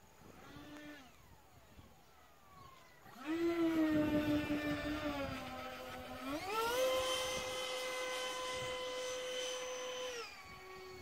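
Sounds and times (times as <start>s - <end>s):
model jet motor whining: 0.0s - 11.0s.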